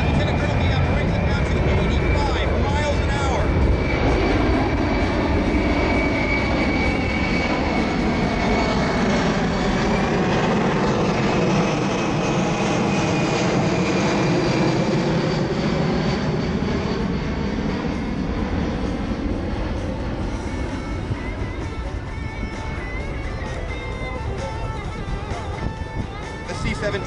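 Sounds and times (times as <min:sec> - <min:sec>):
high engine whine: 0:00.0 - 0:27.0
jet engines rumbling: 0:00.0 - 0:27.0.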